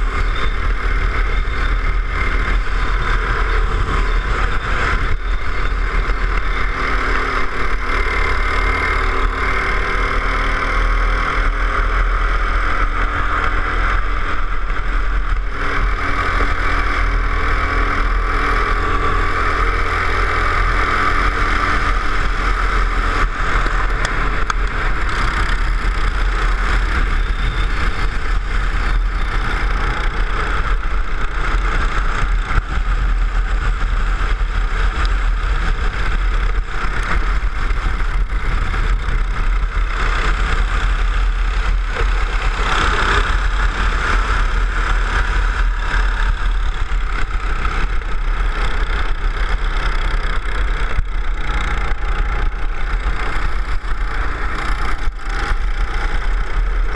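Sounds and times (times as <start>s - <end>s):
go-kart engine running hard: 0.0s - 56.9s.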